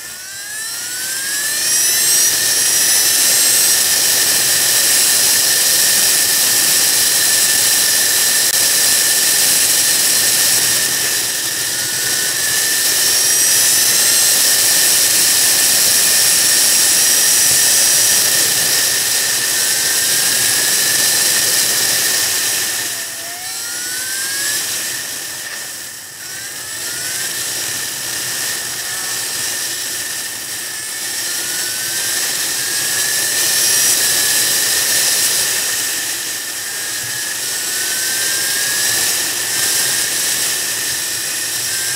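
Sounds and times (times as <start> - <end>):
steady high whine: 0.0 - 41.9.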